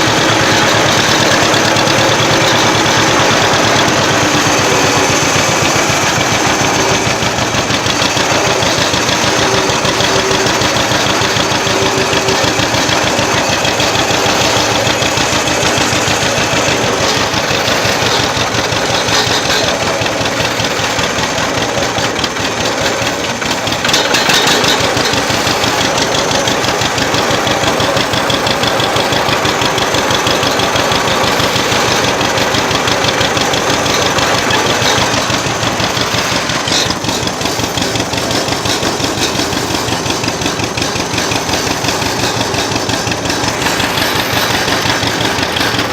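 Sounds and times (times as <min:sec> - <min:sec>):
old tractor engine running: 0:00.0 - 0:45.9.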